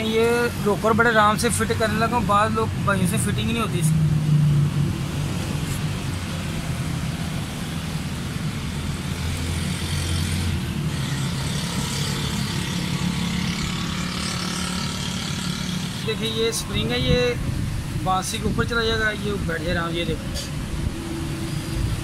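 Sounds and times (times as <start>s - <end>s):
engine hum: 0.0s - 22.0s
traffic noise: 0.0s - 22.0s.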